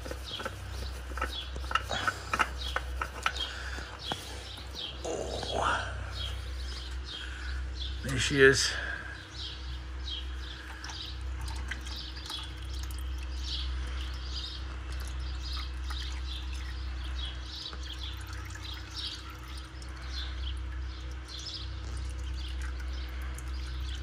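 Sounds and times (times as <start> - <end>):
birds chirping: 0.0 - 24.0
oil trickling and dripping: 0.0 - 24.0
steady low hum: 0.0 - 24.0.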